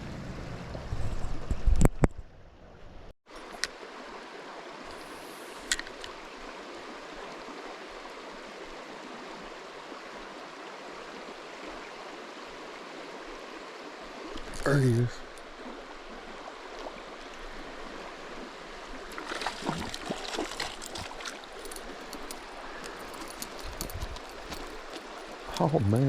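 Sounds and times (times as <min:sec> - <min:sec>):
stream running over rocks: 0:03.3 - 0:26.0.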